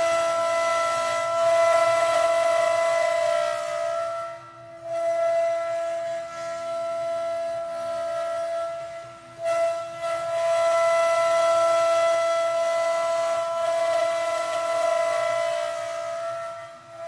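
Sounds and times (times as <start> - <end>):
router spindle high whine: 0.0 - 17.0.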